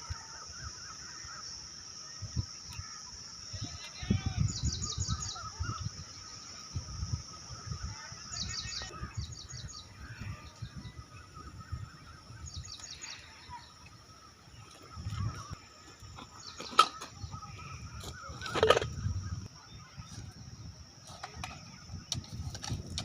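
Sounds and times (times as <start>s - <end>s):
birds trilling: 0.0s - 23.0s
insect drone: 0.0s - 23.0s.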